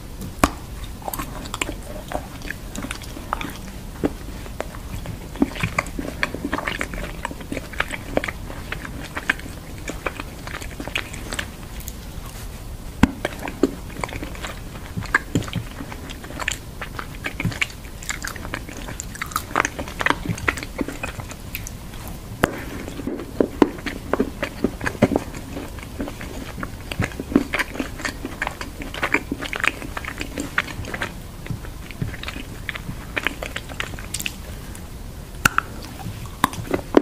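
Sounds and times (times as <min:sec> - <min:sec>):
biting hard chocolate: 0:00.3 - 0:34.4.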